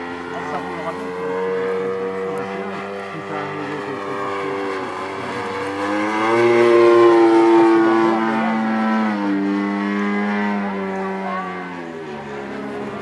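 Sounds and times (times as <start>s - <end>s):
model airplane engine buzzing: 0.0s - 13.0s.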